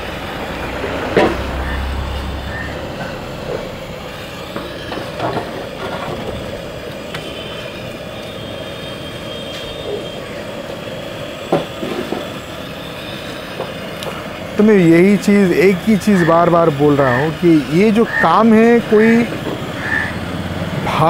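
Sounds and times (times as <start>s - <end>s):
steady rumbling noise: 0.0s - 21.0s.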